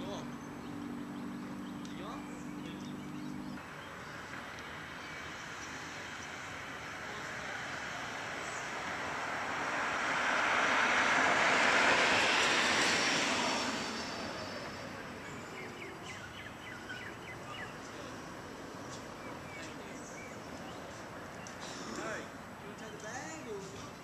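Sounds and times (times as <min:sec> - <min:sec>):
vehicle passing: 0:00.0 - 0:24.0.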